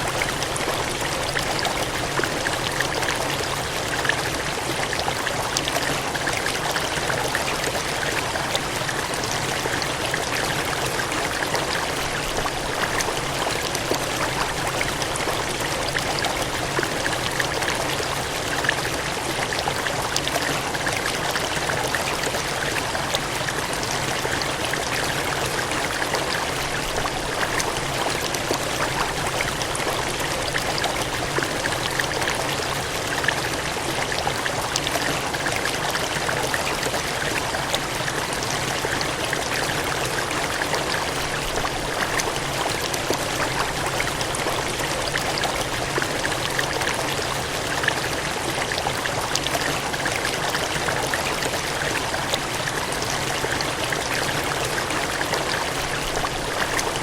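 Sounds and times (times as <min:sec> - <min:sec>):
cascading water gushing: 0:00.0 - 0:57.0.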